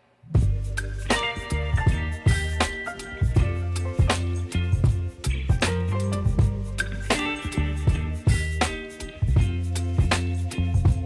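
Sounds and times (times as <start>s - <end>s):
music with deep bass and drums: 0.4s - 11.0s.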